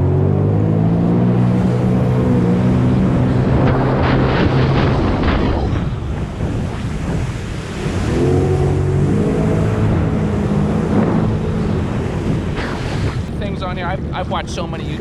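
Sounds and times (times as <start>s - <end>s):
jet ski engine running: 0.0s - 15.0s
wind on microphone: 0.0s - 15.0s
water slapping against hull: 1.6s - 15.0s.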